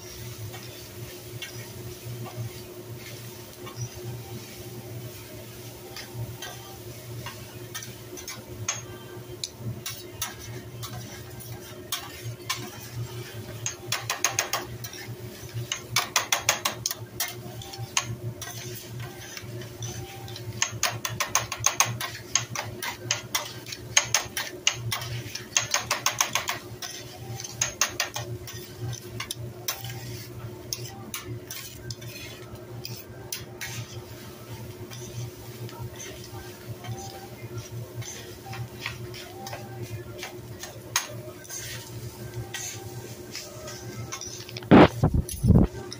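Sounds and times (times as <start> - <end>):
metal utensils clattering on griddle: 5.9 - 8.9, 9.8 - 44.7.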